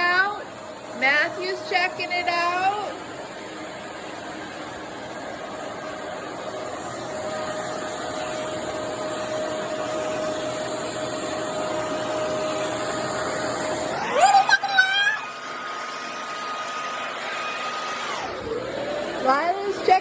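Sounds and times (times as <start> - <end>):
vacuum cleaner whine: 0.0 - 20.0.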